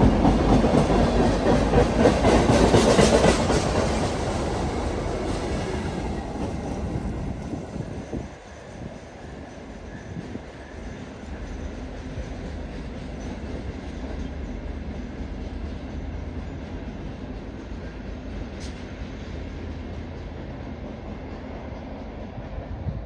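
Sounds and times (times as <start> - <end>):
diesel locomotives rumbling: 0.0 - 23.0
rail noise: 0.0 - 23.0.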